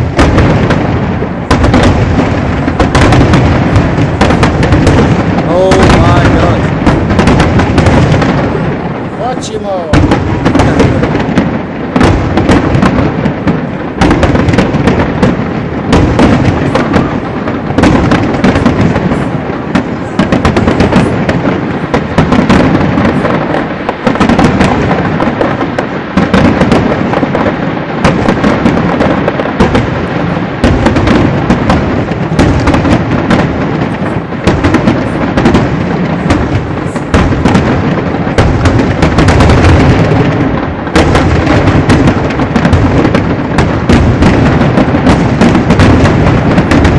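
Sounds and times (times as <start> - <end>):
firework shells booming: 0.0 - 46.9.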